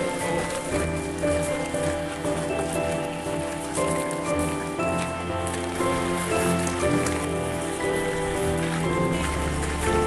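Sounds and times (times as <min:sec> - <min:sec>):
background music of held notes: 0:00.0 - 0:10.0.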